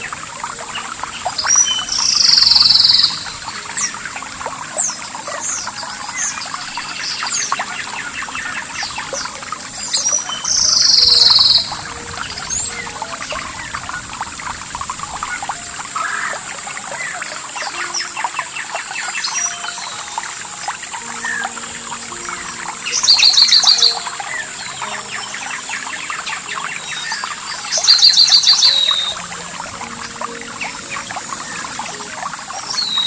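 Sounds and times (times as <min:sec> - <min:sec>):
songbirds chirping: 0:00.0 - 0:33.0
trickling water: 0:00.0 - 0:33.0.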